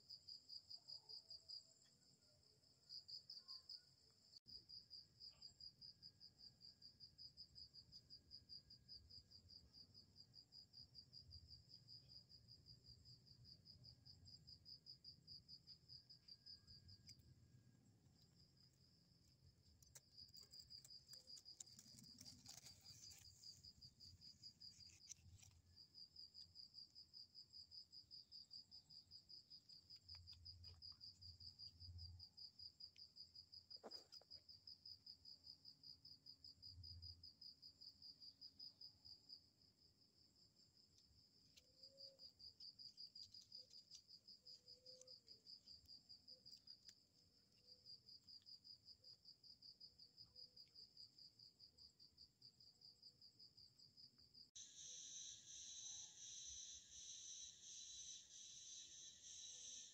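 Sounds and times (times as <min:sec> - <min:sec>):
cricket trilling: 0:00.1 - 0:59.9.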